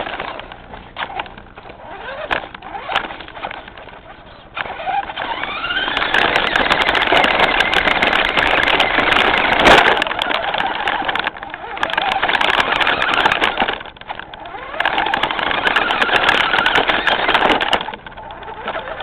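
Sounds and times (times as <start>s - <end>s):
rattling and tyre noise: 0.0s - 19.0s
toy truck motor whining: 0.0s - 19.0s.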